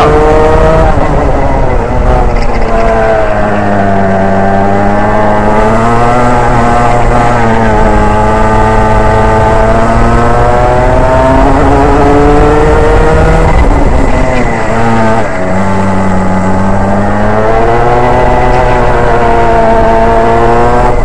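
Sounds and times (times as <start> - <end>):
kart engine at full throttle: 0.0 - 21.0.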